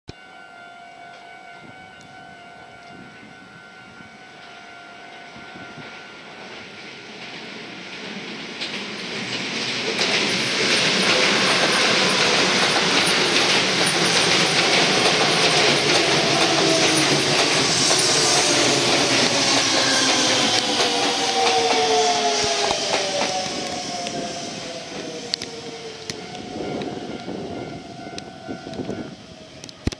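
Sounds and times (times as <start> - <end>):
train whine: 0.1 - 29.9
train wheels rumbling on rails: 4.0 - 29.9.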